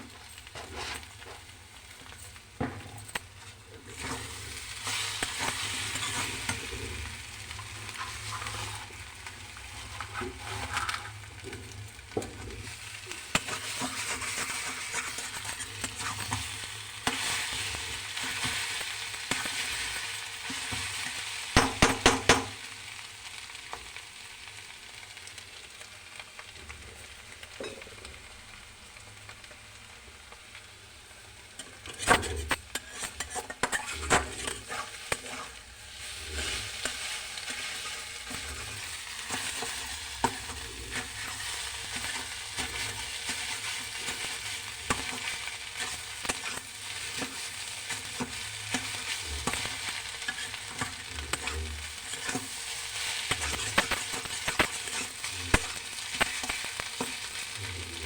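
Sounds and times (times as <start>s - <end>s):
curry sizzling in a pan: 0.0s - 58.0s.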